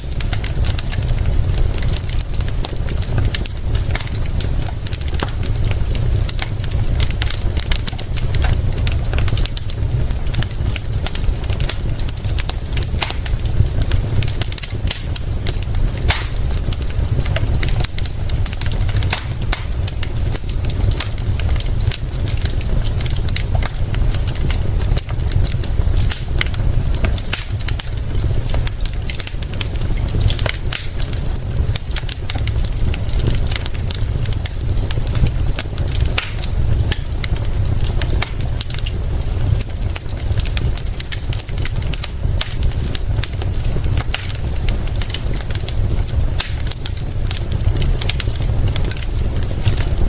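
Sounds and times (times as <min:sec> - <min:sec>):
fire crackling and popping: 0:00.0 - 0:50.0.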